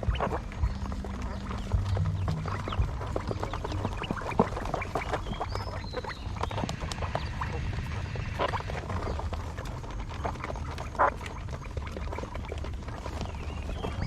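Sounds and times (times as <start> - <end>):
quail high chirps: 0.0 - 14.0
quail tapping and clicking: 0.0 - 14.0
steady low hum: 0.0 - 14.0.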